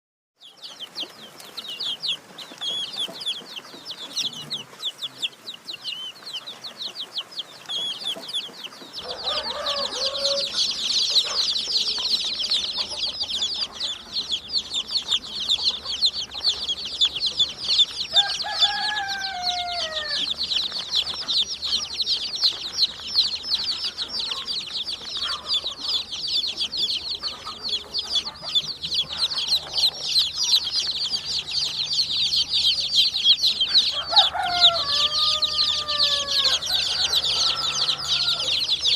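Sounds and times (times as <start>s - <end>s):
chicks peeping: 0.4s - 38.9s.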